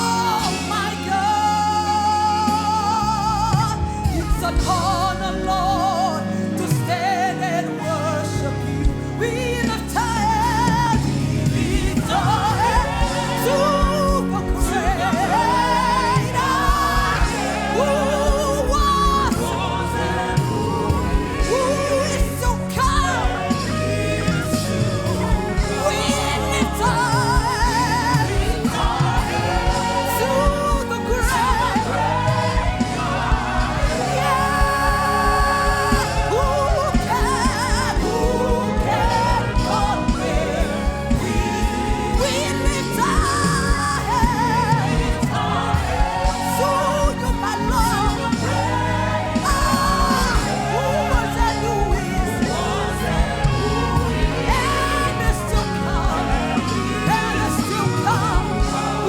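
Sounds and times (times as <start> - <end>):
band with bass and drums: 0.0 - 59.0
person singing with vibrato: 0.0 - 59.0.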